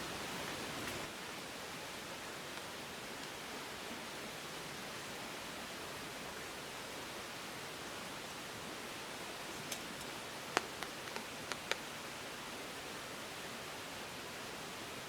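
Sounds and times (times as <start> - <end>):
rain falling: 0.0 - 5.1, 5.7 - 14.8.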